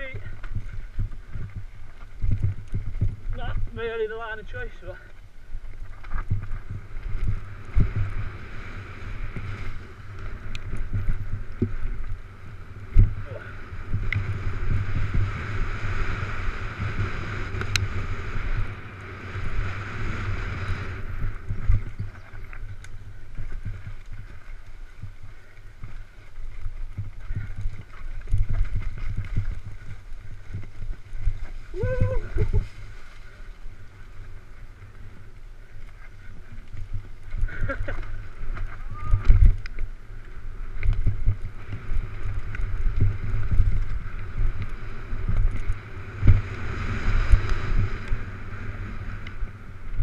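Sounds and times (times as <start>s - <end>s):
mountain bike rattling: 0.0s - 50.0s
wind rumbling on microphone: 0.0s - 50.0s.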